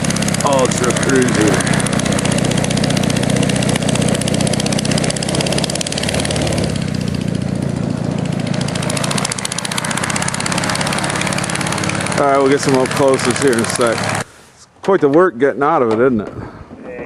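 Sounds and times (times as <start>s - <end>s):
aircraft engine idling: 0.0s - 14.3s.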